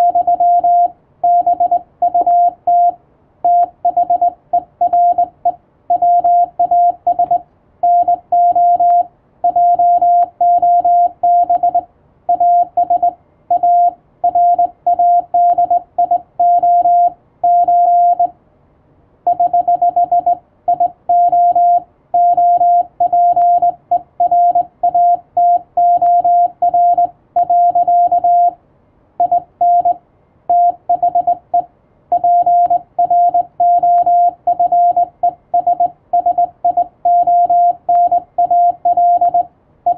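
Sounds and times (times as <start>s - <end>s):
morse code beeps: 0.0s - 18.3s, 19.3s - 28.6s, 29.2s - 39.9s.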